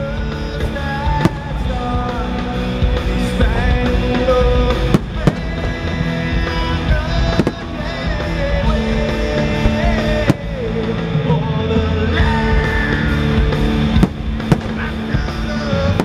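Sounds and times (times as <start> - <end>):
loud show music: 0.0 - 16.0
fireworks bursting: 0.2 - 11.0, 13.4 - 16.0.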